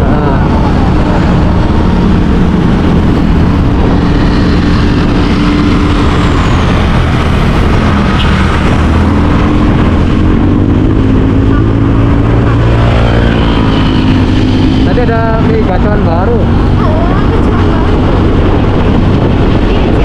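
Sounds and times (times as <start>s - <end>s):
engine and road noise rumble: 0.0s - 20.0s.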